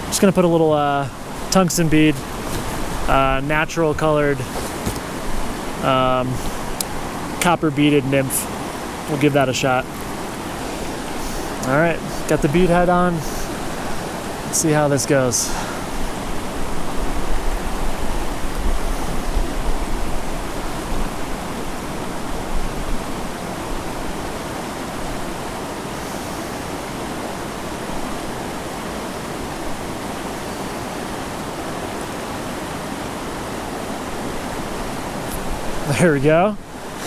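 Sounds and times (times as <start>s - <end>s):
creek rushing over rocks: 0.0s - 37.0s.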